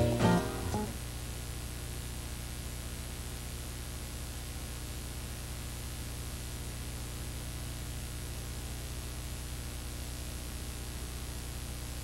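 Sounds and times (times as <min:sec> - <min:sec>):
low electrical hum: 0:00.0 - 0:12.0
videotape hiss: 0:00.0 - 0:12.0.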